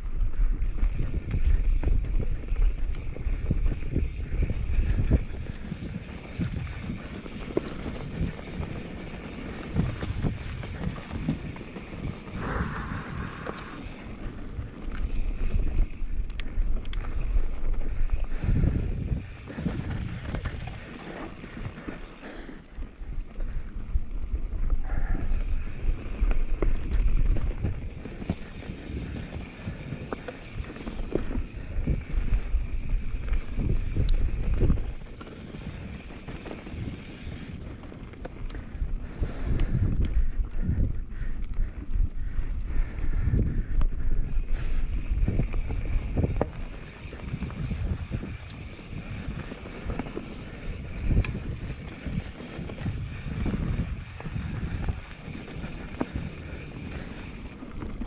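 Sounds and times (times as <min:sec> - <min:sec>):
bike rattling and knocking: 0:00.0 - 0:12.8, 0:13.6 - 0:22.4, 0:23.4 - 0:58.0
wind buffeting microphone: 0:00.0 - 0:22.1, 0:22.8 - 0:58.0.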